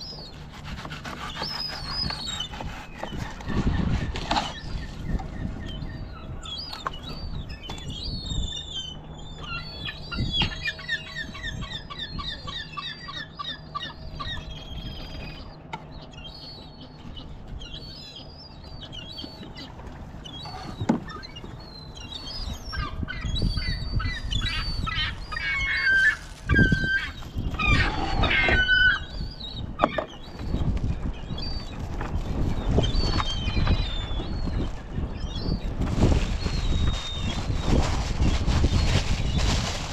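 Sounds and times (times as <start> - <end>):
birds squawking: 0.0 - 39.6
birds chirping: 0.0 - 39.7.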